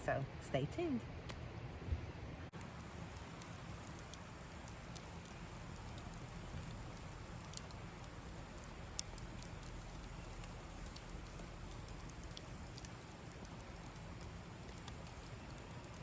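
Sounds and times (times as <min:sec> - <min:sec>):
campfire crackling: 0:02.4 - 0:16.0.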